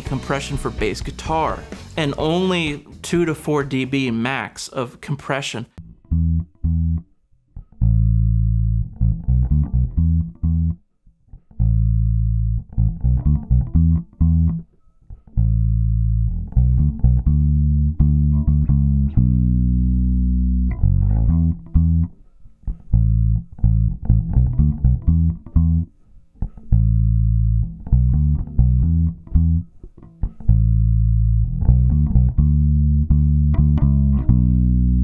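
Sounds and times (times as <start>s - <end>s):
bass guitar riff: 0.0s - 4.9s, 5.8s - 35.0s.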